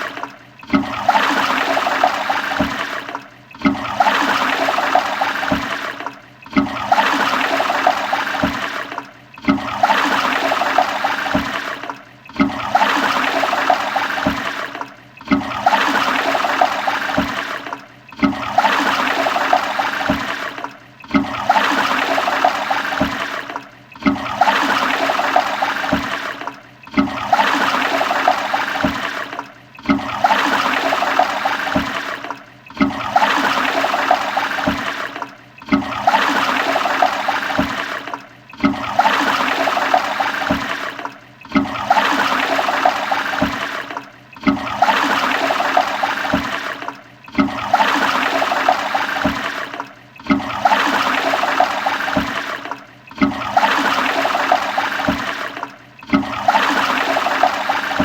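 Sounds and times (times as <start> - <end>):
toilet flushing: 0.0 - 58.0.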